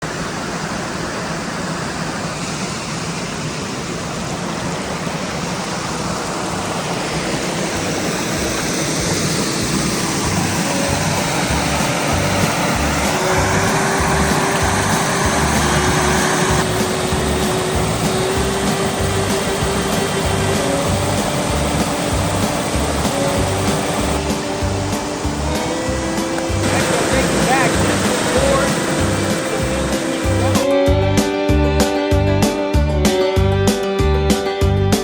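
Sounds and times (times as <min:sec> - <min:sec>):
swelling wash of music: 0:00.2 - 0:35.0
steady music beat: 0:06.6 - 0:35.0.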